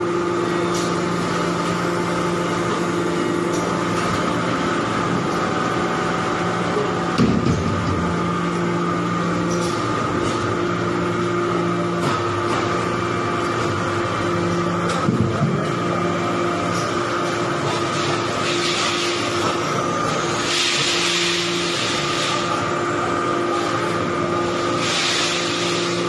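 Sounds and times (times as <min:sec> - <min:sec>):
baler machine hum: 0:00.0 - 0:26.0.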